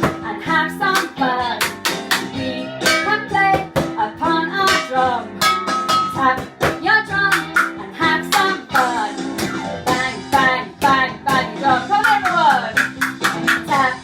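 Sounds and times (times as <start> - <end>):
guitar: 0.0 - 14.0
person singing children's song: 0.0 - 14.0
sharp rhythmic hits: 0.9 - 4.0, 4.6 - 13.9.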